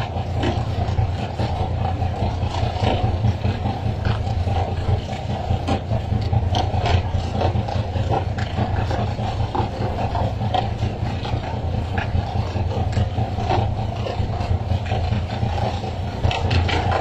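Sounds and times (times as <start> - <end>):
boat engine running: 0.0 - 17.0
water splashing along hull: 0.0 - 17.0.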